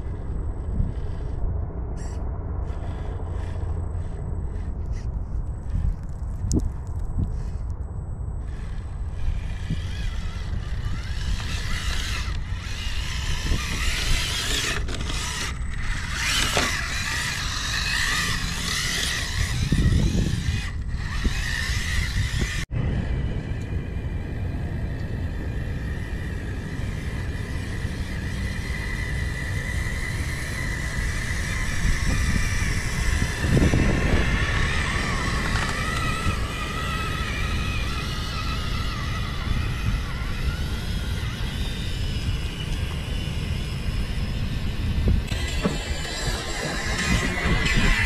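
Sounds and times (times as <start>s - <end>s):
electric motor and gears whining: 0.0s - 48.0s
wind rumbling on microphone: 0.0s - 48.0s.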